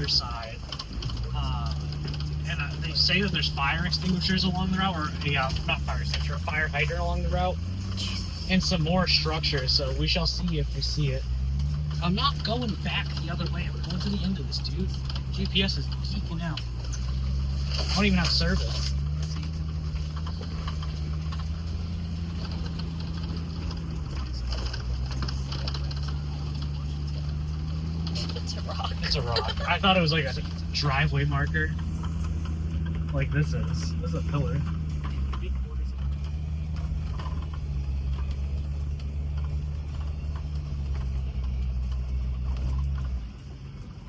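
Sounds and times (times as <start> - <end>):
engine hum inside car cabin: 0.0 - 44.0
light rattles: 0.0 - 44.0.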